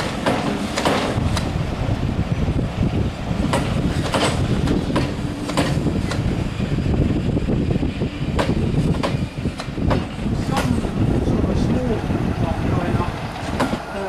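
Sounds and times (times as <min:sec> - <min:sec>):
train rumble: 0:00.0 - 0:14.0
train wheels clicking over rail joints: 0:00.0 - 0:14.0.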